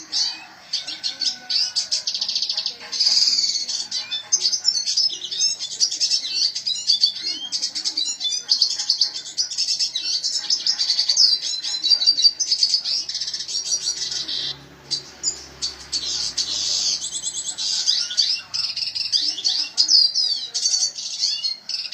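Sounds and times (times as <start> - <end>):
bird twittering chirps and trills: 0.0 - 21.9.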